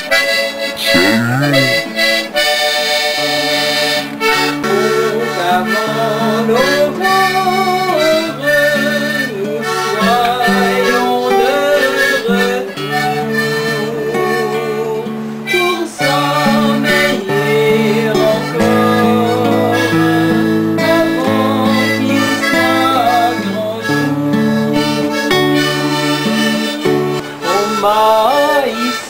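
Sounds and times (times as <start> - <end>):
accordion folk tune: 0.0 - 29.0.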